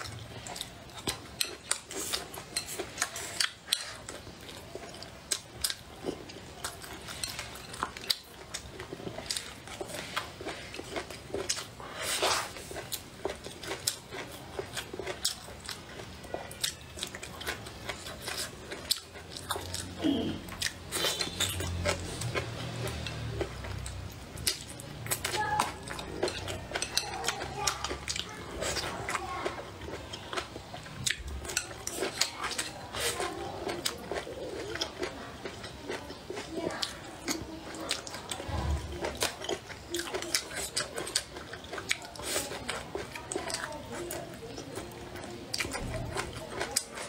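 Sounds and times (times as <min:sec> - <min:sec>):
chewing and crunching: 0:00.0 - 0:47.0.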